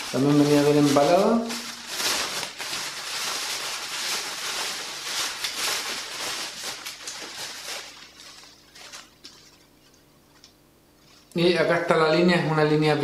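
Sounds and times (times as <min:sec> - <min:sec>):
packaging wrap rustling and crinkling: 0:00.0 - 0:11.4.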